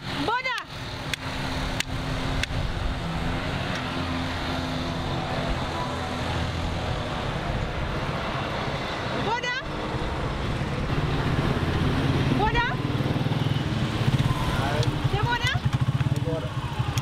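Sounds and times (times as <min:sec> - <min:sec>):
street noise: 0:00.0 - 0:17.0
vehicle engine droning: 0:00.0 - 0:17.0.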